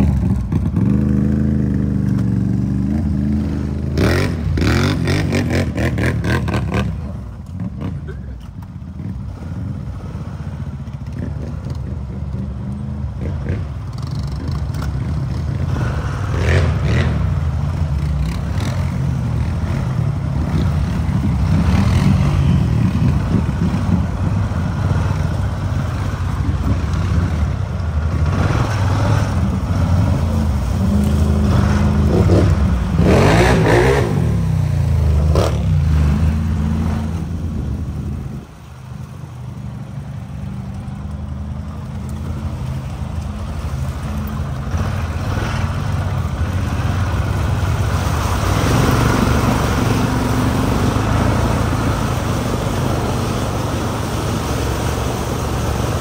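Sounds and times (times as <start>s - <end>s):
vehicle engine revving: 0.0s - 8.2s, 13.1s - 38.8s, 41.8s - 56.0s.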